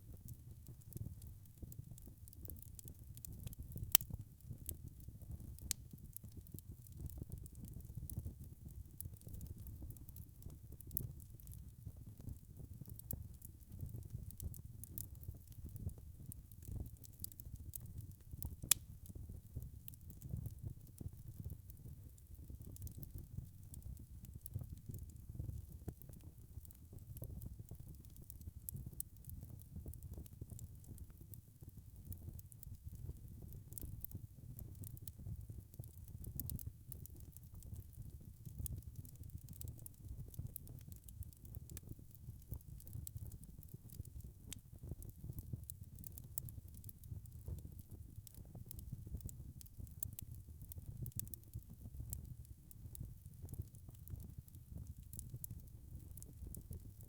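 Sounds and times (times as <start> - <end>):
fire crackles: 0.0 - 57.0
logs burning in fireplace: 0.0 - 57.0.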